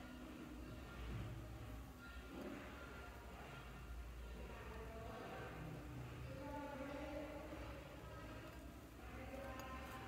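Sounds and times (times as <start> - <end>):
faint steady low hum: 0.0 - 10.0.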